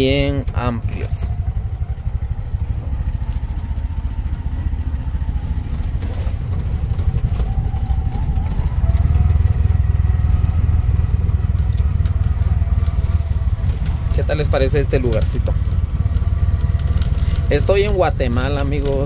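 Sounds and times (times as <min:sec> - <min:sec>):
small engine rumbling with whine: 0:00.0 - 0:19.0.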